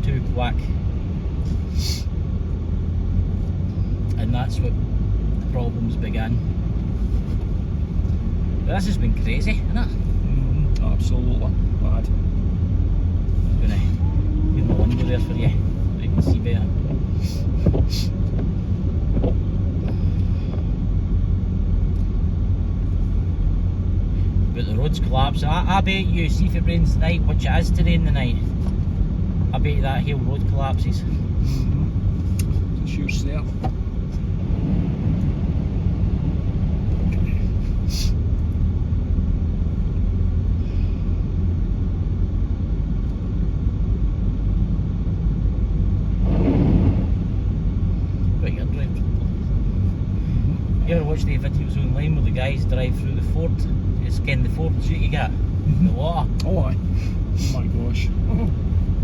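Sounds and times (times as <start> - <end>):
car driving on wet road: 0.0 - 59.0
vehicle engine and tyre rumble: 0.0 - 59.0.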